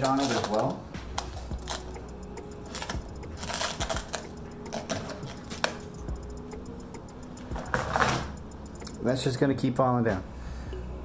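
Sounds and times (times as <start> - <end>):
tools clicking and clinking: 0.0 - 9.0.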